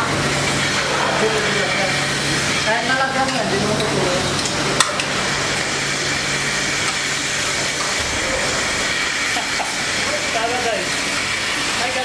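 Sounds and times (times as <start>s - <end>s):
milking machinery hissing: 0.0s - 12.0s.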